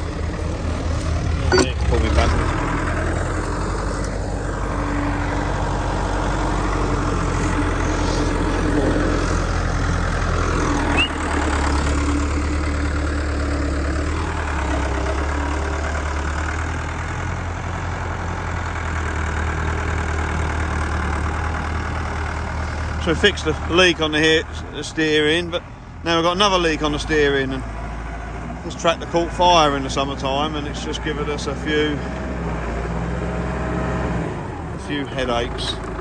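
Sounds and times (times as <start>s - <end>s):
vehicle engine running at low revs: 0.0s - 36.0s.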